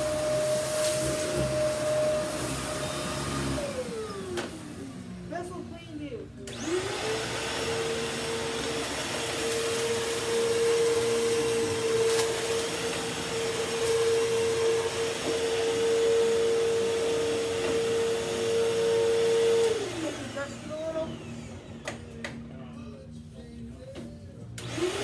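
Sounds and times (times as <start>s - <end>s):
vacuum cleaner running: 0.0s - 5.8s, 6.4s - 22.7s, 24.6s - 25.0s.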